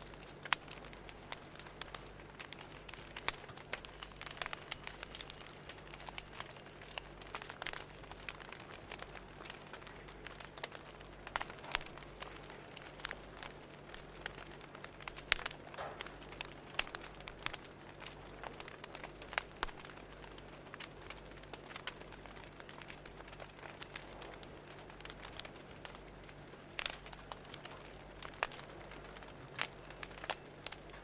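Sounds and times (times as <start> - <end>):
fire crackling and popping: 0.0 - 31.0
low steady hum: 0.0 - 31.0
soft steady hiss: 0.0 - 31.0.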